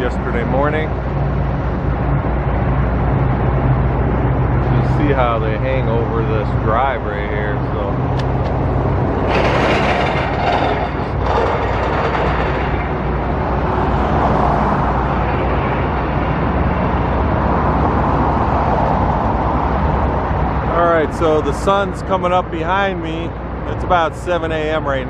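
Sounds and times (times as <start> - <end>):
vehicle and road noise: 0.0 - 25.0.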